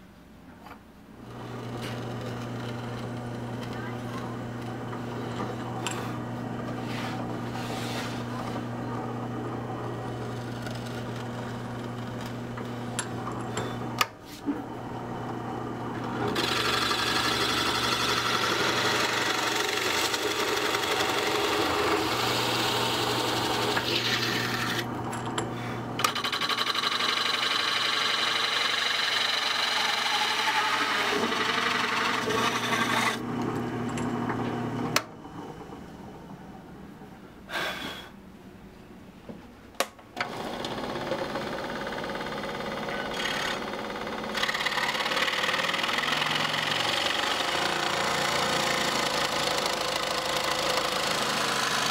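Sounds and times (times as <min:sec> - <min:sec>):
power tool running: 0:01.2 - 0:35.1, 0:40.2 - 0:51.9.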